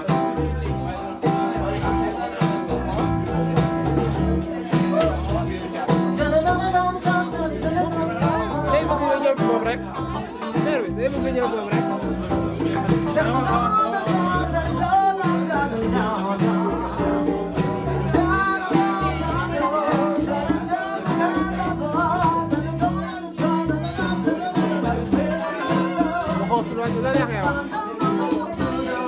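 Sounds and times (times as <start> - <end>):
walking bass line: 0.0 - 20.8, 21.4 - 29.0
guitar: 0.0 - 29.0
person singing: 0.0 - 29.0
steady percussion: 0.0 - 29.0.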